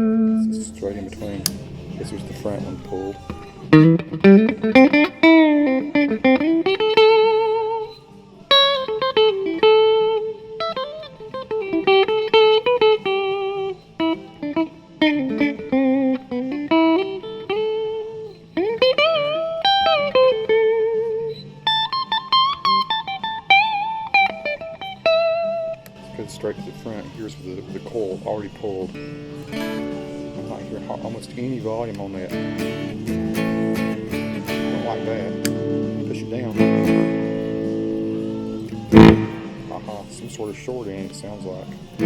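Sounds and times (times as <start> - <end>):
electric guitar blues lead: 0.0 - 42.0.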